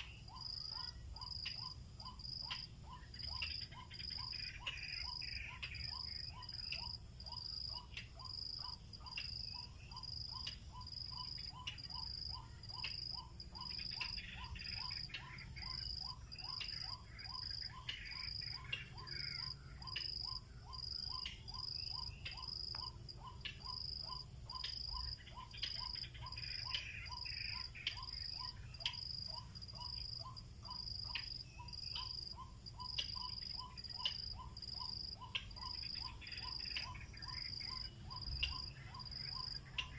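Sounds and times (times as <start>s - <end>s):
bird chirps: 0.0s - 39.9s
insects calling in pulses: 0.0s - 39.9s.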